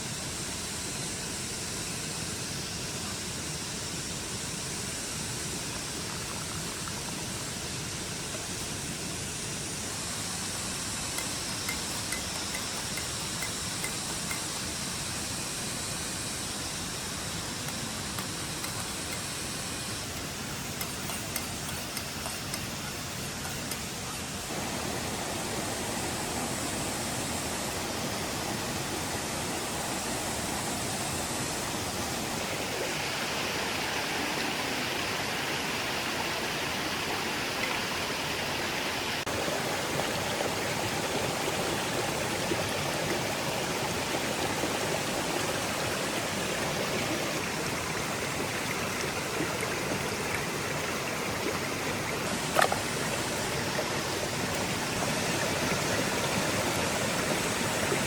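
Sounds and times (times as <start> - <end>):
rushing outdoor noise: 0.0 - 58.0.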